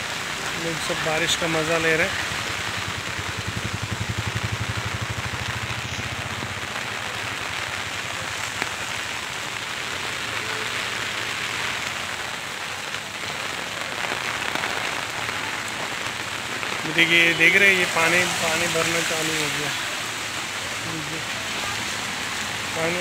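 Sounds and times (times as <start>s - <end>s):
rain on wet street: 0.0s - 23.0s
rain pattering on umbrella: 0.0s - 23.0s.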